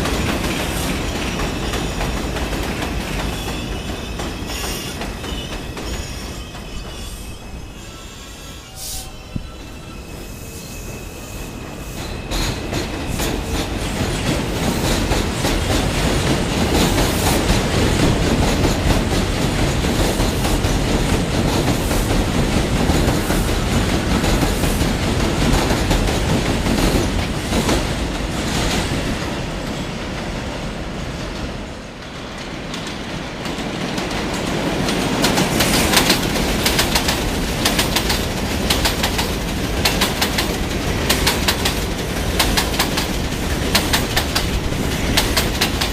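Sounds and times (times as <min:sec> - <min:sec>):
train wheels clattering over rails: 0:00.0 - 0:07.2, 0:11.6 - 0:45.9
train rumble: 0:00.0 - 0:45.9.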